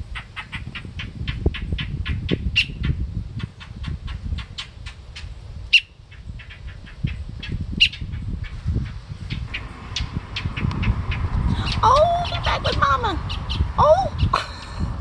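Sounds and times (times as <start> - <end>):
sharp bird calls: 0.1 - 5.0, 5.7 - 14.4
fledgling songbird begging chirps: 0.2 - 3.8, 5.7 - 14.4.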